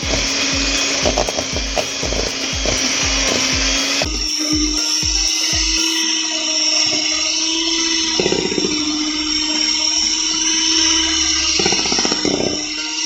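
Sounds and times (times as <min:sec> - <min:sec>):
small electric motor whirring: 0:00.0 - 0:13.0.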